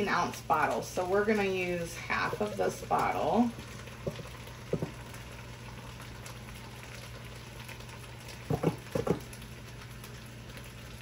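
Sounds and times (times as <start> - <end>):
vegetables sizzling in a hot pan: 0.0 - 11.0.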